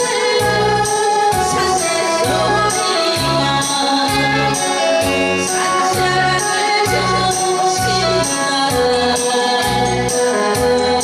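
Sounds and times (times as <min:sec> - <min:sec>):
loud backing music with a beat: 0:00.0 - 0:11.0
woman singing into a microphone: 0:00.0 - 0:11.0.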